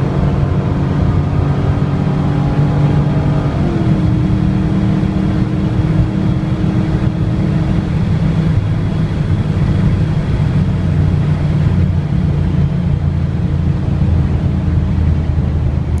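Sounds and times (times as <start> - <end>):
car engine exhaust drone: 0.0 - 16.0.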